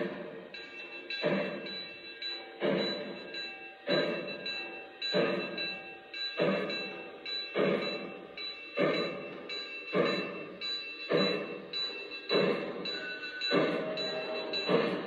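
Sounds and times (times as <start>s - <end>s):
model locomotive steam beat: 0.0s - 15.0s.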